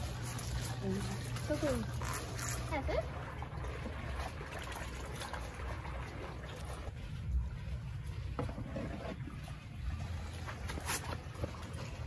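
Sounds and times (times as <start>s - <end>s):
water sloshing and trickling: 0.0s - 12.0s.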